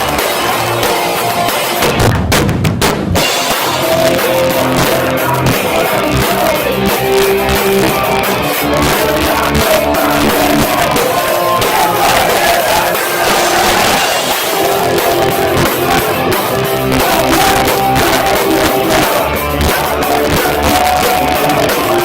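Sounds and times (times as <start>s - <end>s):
distorted heavy rock band: 0.0s - 22.0s.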